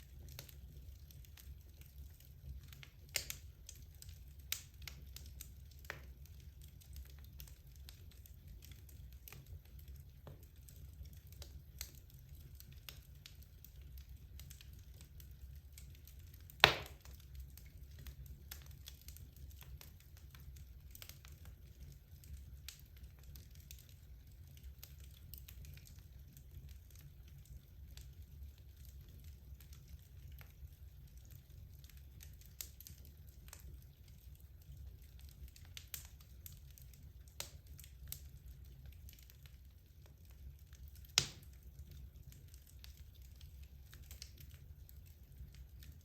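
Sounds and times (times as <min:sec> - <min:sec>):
logs crackling and popping: 0:00.0 - 0:46.0.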